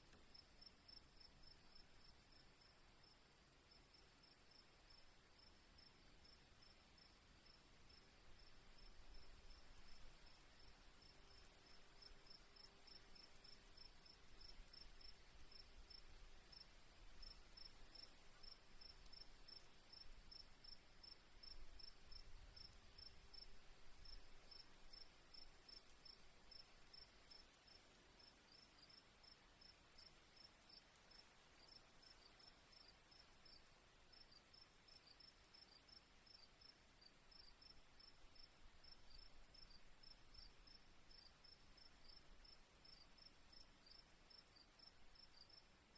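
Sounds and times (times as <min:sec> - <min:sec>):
cricket rapid chirps: 0:03.7 - 0:45.9.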